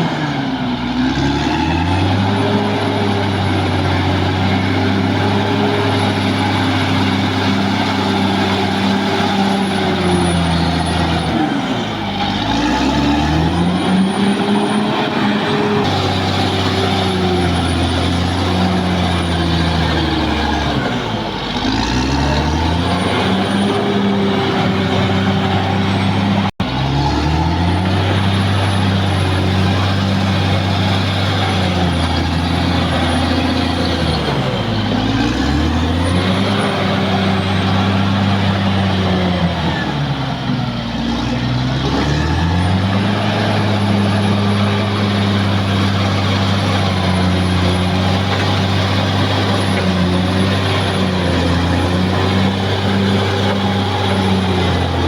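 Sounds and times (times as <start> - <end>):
bulldozer diesel engine running hard: 0.0 - 55.0.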